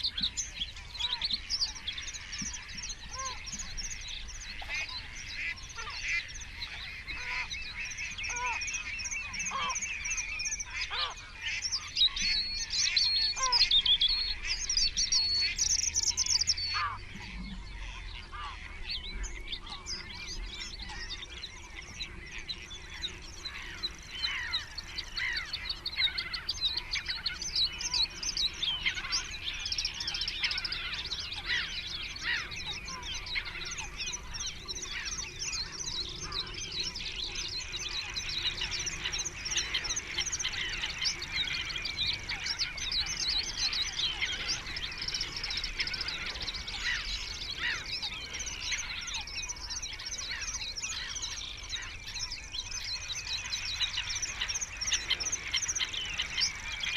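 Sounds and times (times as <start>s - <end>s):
birds chirping and trilling: 0.0s - 56.9s.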